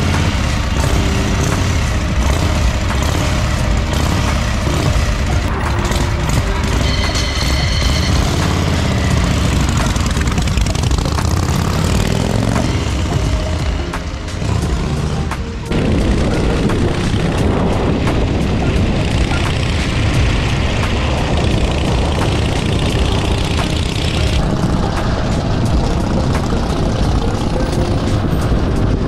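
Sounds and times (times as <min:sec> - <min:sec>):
motorcycle engine running: 0:00.0 - 0:29.0
music: 0:00.0 - 0:29.0.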